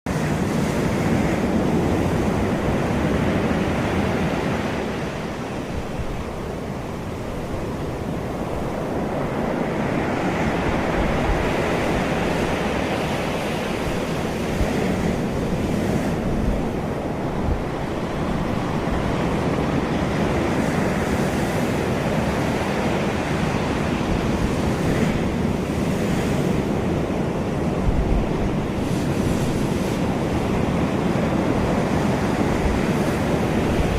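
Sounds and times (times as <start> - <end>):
ocean surf rushing: 0.1 - 33.9
wind buffeting microphone: 0.1 - 33.9.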